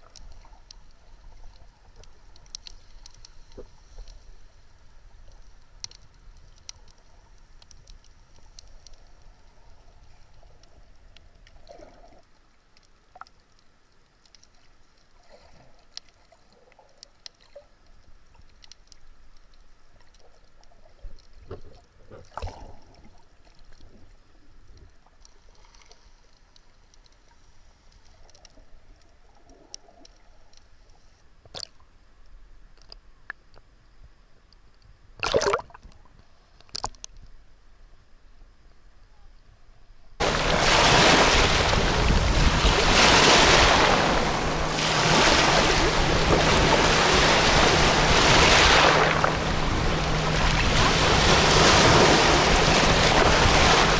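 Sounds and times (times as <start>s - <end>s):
gurgling water swishes: 0.0s - 32.1s, 35.1s - 36.9s, 40.2s - 53.9s
faint underwater clicks and crackles: 0.0s - 53.9s
underwater rumble of moving water: 0.0s - 53.9s.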